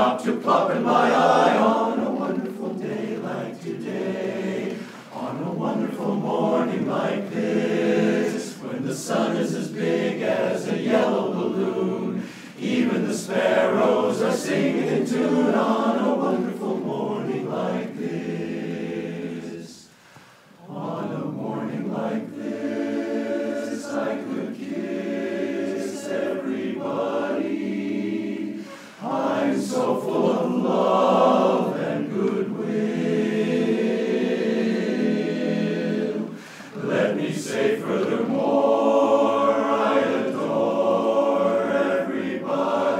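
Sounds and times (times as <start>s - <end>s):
men's chorus singing a cappella: 0.0s - 20.0s, 20.6s - 42.9s.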